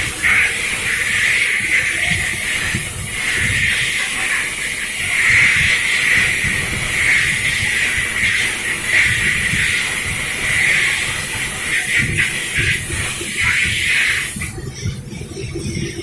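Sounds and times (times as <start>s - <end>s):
loud steady hiss: 0.0s - 14.6s.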